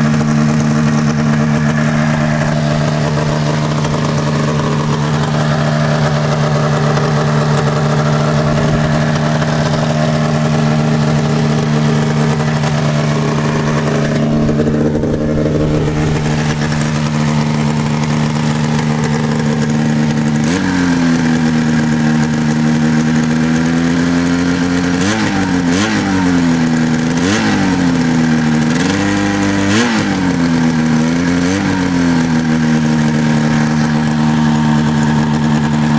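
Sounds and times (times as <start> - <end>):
snowmobile engine idling and revving: 0.0 - 35.9.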